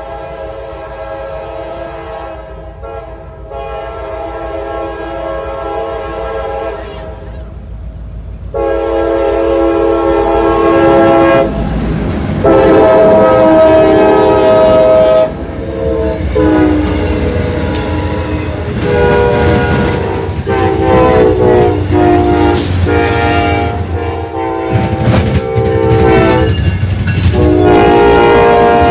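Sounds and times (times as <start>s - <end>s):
locomotive air horn blasts: 0.0s - 7.3s, 8.5s - 11.6s, 12.4s - 26.6s, 27.4s - 28.9s
passing locomotives rumbling: 0.0s - 28.9s.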